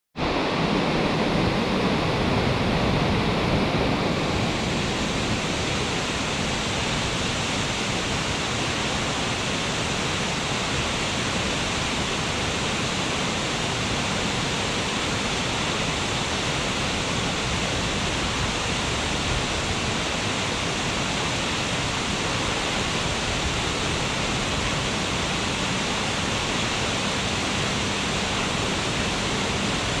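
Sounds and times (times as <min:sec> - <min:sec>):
waterfall rushing onto rocks: 0:00.2 - 0:30.0.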